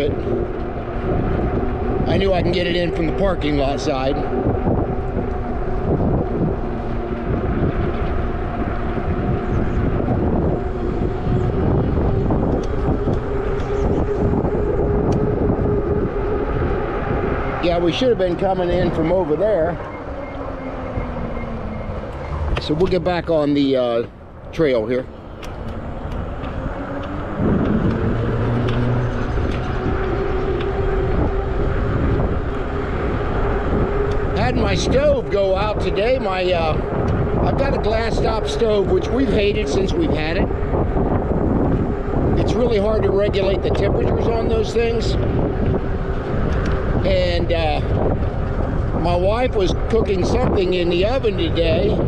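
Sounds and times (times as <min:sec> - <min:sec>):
electric bike hum: 0:00.0 - 0:52.0
wind rumbling on microphone: 0:00.0 - 0:52.0.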